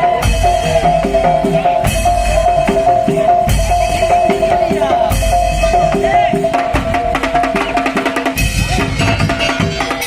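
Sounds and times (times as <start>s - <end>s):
drum beats: 0.0s - 10.0s.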